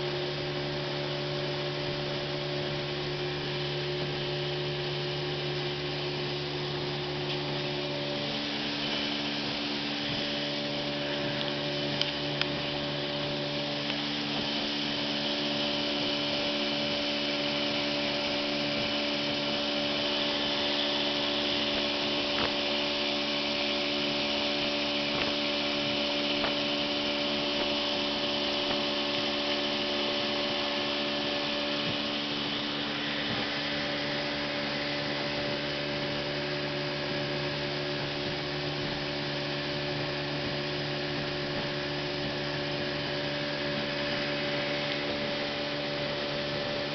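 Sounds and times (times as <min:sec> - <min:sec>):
motorboat engine running: 0:00.0 - 0:46.9.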